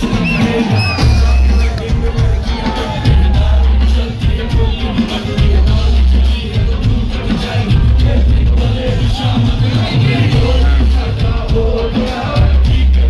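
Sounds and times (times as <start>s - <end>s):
hip-hop beat with heavy bass: 0.0s - 13.0s
vocals into microphones: 0.0s - 13.0s.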